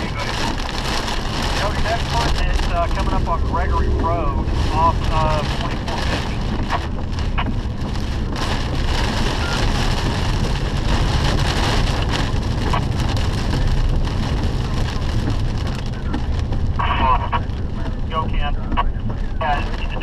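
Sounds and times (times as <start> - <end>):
rain: 0.0 - 20.0
wind: 0.0 - 20.0.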